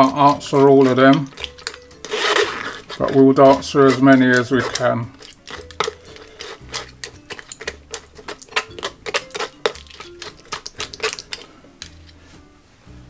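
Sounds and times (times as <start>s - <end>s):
metal spoon scraping a sieve: 0.0s - 12.2s.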